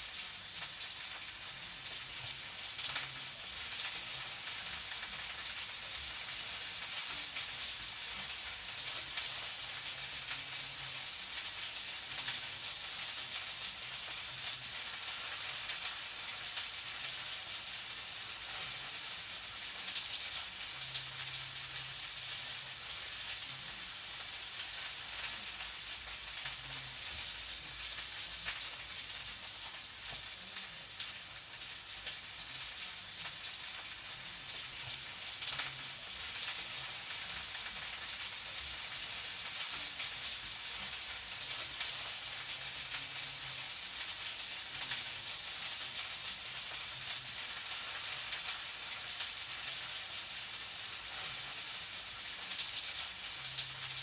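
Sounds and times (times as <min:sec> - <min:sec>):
food sizzling in a pan: 0:00.0 - 0:54.0
crackles and pops: 0:00.1 - 0:19.1, 0:19.8 - 0:51.8.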